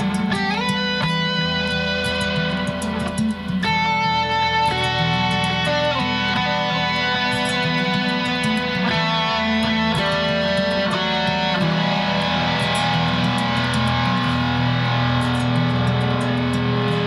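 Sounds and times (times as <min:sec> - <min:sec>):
amplified guitar notes: 0:00.0 - 0:17.0.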